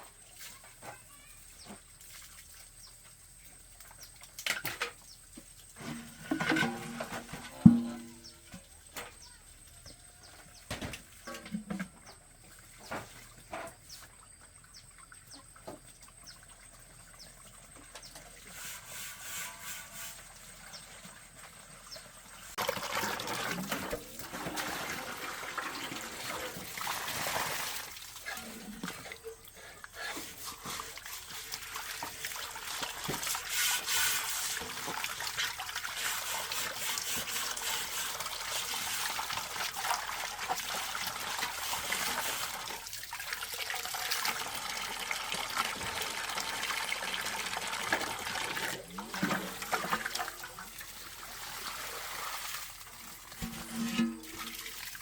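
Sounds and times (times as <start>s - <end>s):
running water trickling and splashing: 0.2s - 55.0s.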